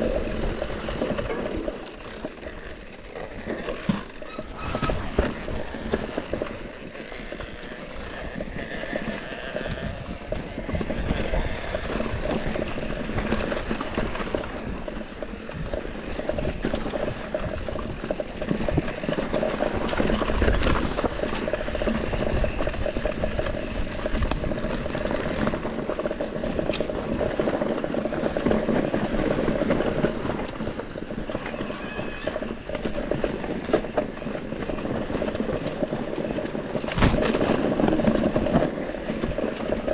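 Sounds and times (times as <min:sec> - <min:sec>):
bike rattling: 0:00.0 - 0:39.9
tyres crunching over gravel: 0:00.0 - 0:39.9.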